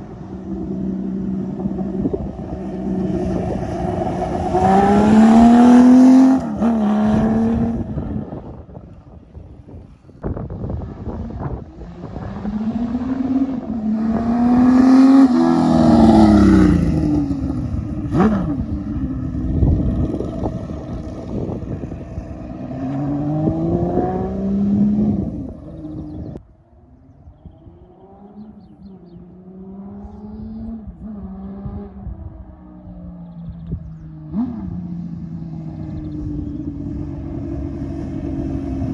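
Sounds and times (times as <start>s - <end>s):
motorcycle passing and accelerating: 0.0s - 38.9s.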